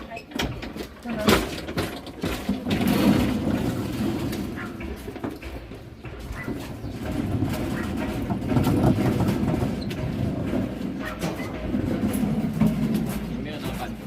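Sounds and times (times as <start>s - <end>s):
rumbling rattle with small knocks: 0.0s - 14.0s.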